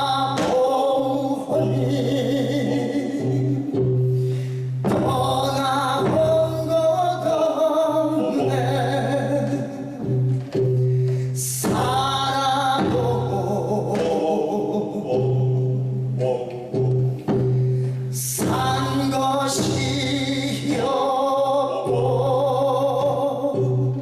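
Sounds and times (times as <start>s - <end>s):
instrumental accompaniment: 0.0s - 24.0s
man singing with vibrato: 0.0s - 24.0s.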